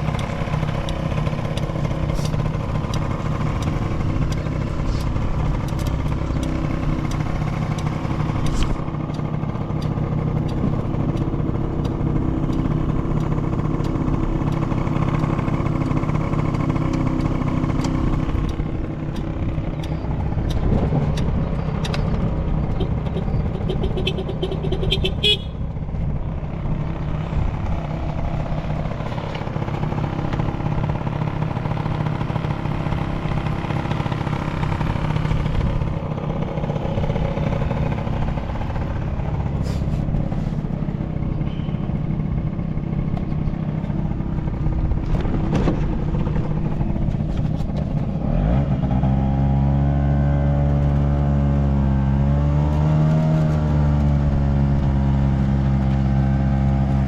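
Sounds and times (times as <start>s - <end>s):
road and wind noise: 0.0s - 57.0s
scooter engine running: 0.0s - 57.0s.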